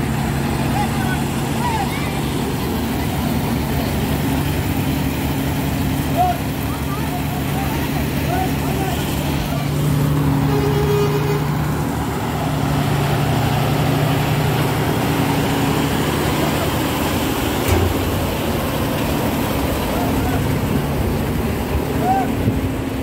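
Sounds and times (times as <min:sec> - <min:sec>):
diesel truck engine running: 0:00.0 - 0:23.0
roadway noise: 0:00.0 - 0:23.0.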